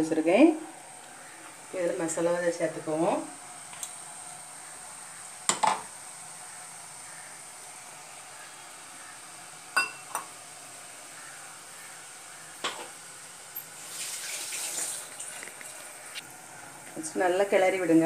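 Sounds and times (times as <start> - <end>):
faint sizzle of simmering pot: 0.0 - 18.0.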